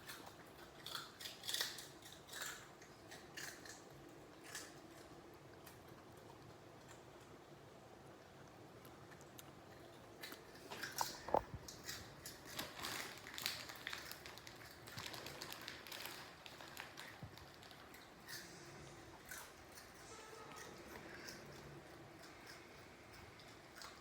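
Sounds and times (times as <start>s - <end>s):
dog crunching pork rinds: 0.0s - 7.6s, 8.2s - 24.0s.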